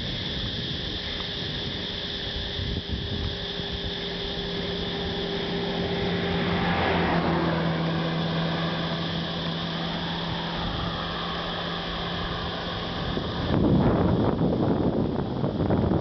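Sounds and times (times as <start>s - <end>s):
wind buffeting microphone: 0.0s - 16.0s
truck passing: 1.6s - 15.7s.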